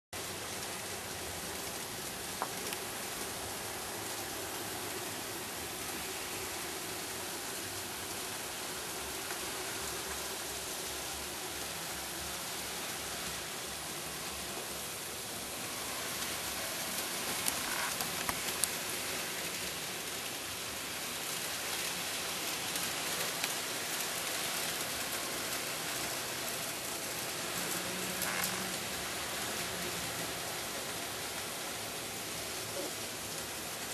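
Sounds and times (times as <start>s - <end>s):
model trains rolling hiss: 0.2s - 33.9s.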